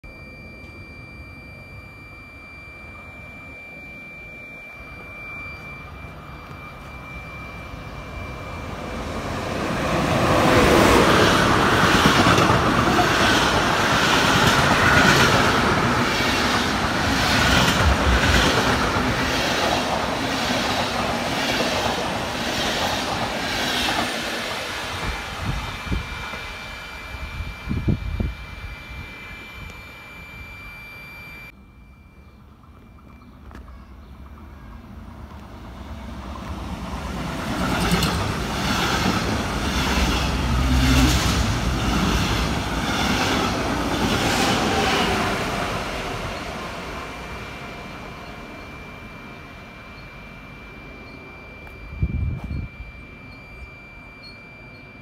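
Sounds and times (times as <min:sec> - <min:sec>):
train passing: 0:03.6 - 0:29.6, 0:31.9 - 0:54.8.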